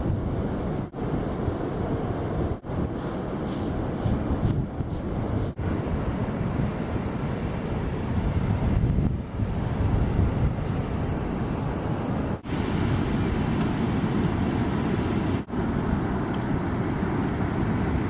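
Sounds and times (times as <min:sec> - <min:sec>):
ocean surf: 0:00.0 - 0:18.0
wind rumbling on microphone: 0:00.0 - 0:18.0.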